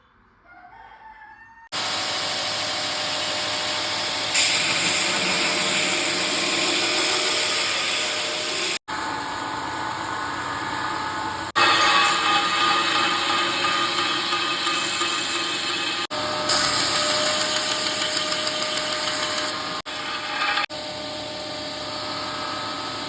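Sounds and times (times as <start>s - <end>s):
electric power tool running: 1.8s - 23.0s.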